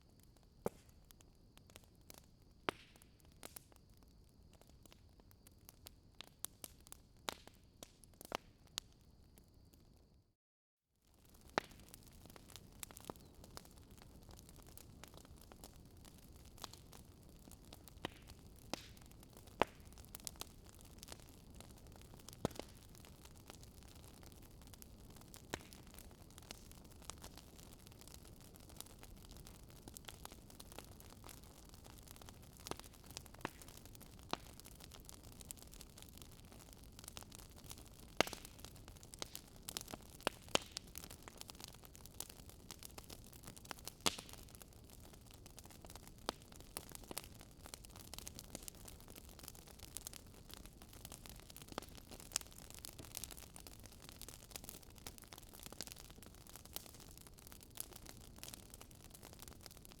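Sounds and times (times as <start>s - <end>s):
wood fire crackling and popping: 0.0s - 9.8s, 11.1s - 60.0s.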